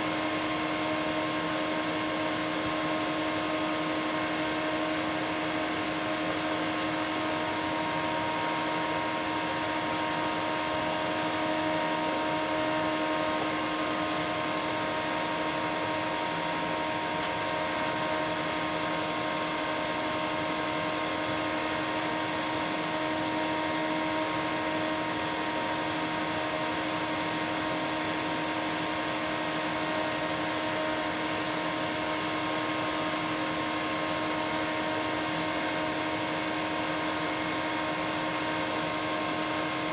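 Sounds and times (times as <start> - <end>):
induction heater humming: 0.0 - 39.9.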